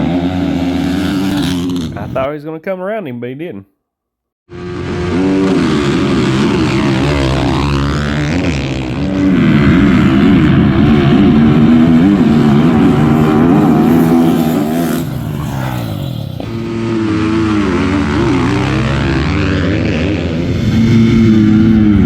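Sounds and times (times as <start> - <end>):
small racing engines revving: 0.0 - 2.1, 4.5 - 22.0.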